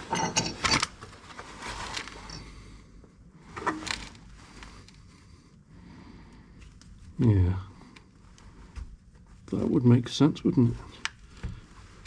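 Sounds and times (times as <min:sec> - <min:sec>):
rustling and handling noises: 0:00.0 - 0:05.3, 0:06.3 - 0:12.0.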